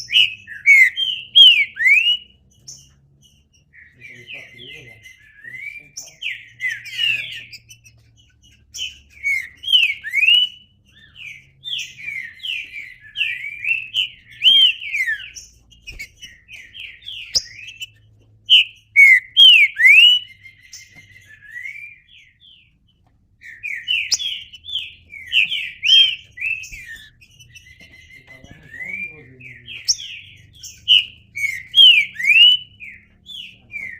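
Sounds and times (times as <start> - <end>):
bird singing whistled notes: 0.0 - 22.8, 23.4 - 33.9.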